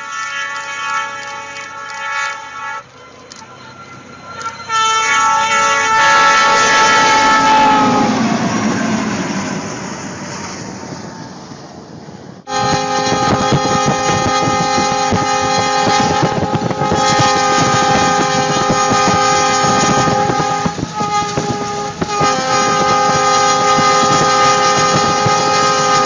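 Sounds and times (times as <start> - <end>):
locomotive air horn: 0.0 - 8.8, 12.5 - 26.0
passing train noise: 0.0 - 26.0.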